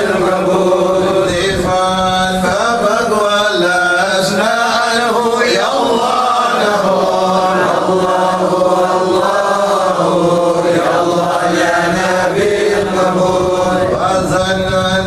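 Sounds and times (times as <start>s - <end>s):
men chanting devotional verses: 0.0s - 15.0s
steady low hum: 0.0s - 15.0s.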